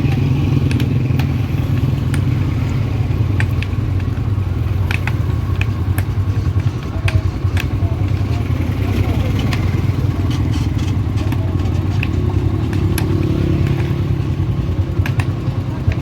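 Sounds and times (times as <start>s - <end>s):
engine running low rumble: 0.0s - 16.0s
sharp clicks and clanks: 0.0s - 16.0s.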